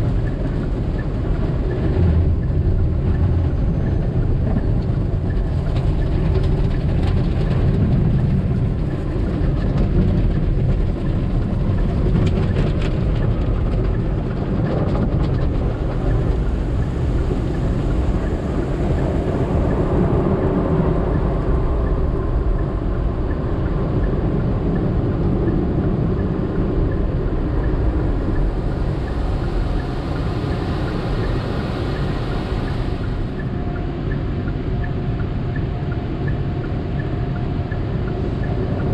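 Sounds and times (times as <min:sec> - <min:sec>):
car wash equipment washing: 0:00.0 - 0:38.9.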